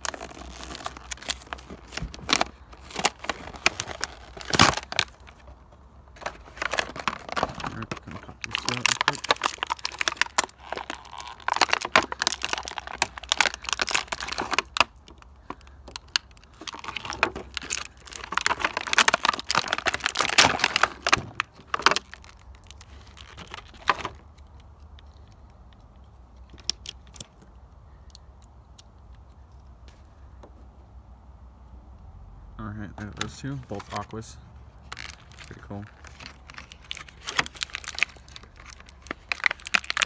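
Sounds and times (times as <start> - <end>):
plastic packaging crackling: 0.0 - 25.6, 26.4 - 28.2, 33.1 - 40.0.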